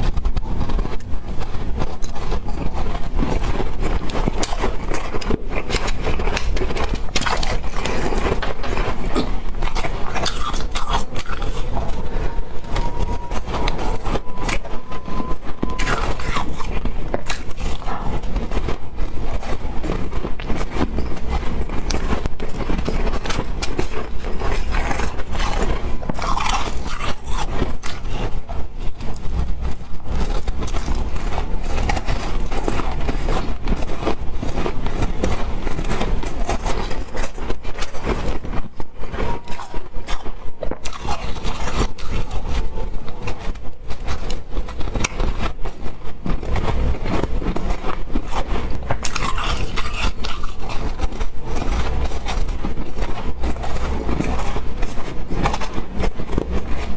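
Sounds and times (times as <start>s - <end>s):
ice crunching and chewing: 0.0s - 56.9s.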